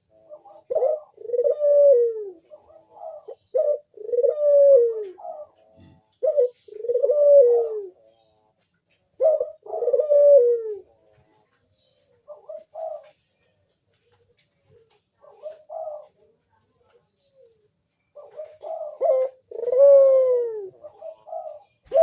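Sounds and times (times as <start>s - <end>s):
dove cooing: 0.0s - 13.4s, 14.0s - 22.0s.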